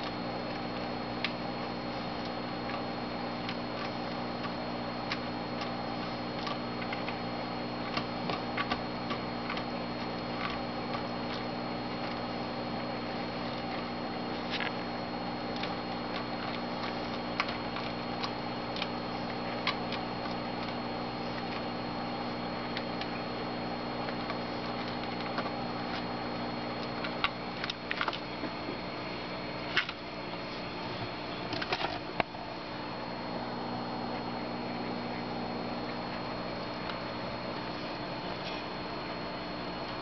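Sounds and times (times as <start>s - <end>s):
low hum: 0.0s - 40.0s.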